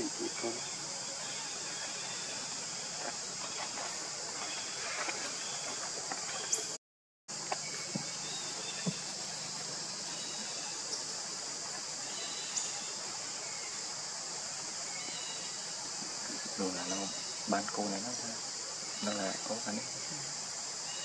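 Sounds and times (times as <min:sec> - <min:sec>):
high-pitched insect drone: 0:00.0 - 0:04.8, 0:07.3 - 0:21.0.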